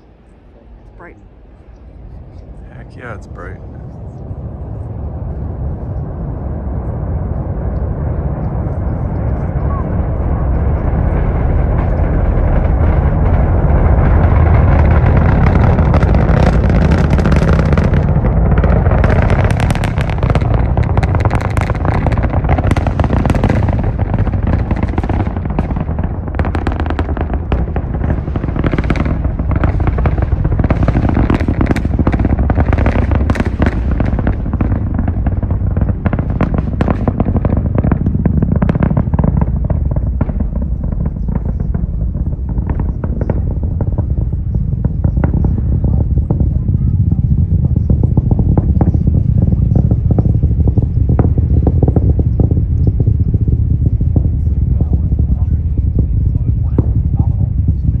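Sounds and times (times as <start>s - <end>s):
rocket engines rumbling and crackling: 0.0s - 58.0s.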